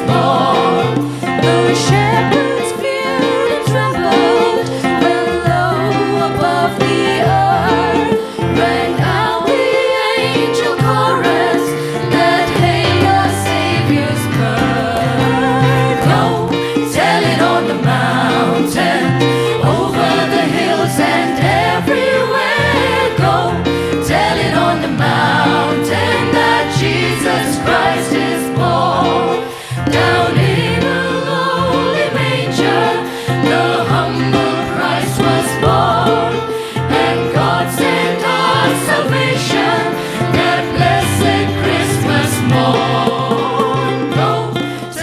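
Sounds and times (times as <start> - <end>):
choir singing gospel song: 0.0 - 45.0
instrumental backing music: 0.0 - 45.0.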